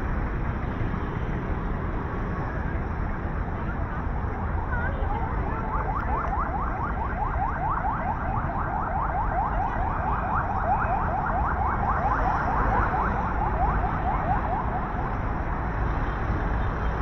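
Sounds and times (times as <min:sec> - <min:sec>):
low rumble of city noise: 0:00.0 - 0:17.0.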